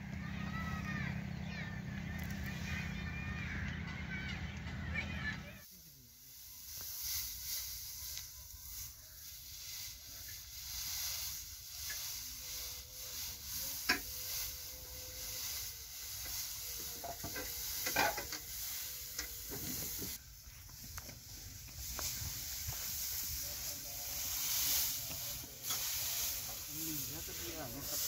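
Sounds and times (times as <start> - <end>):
dry straw rustling and crackling: 0.2 - 3.6, 5.6 - 28.0.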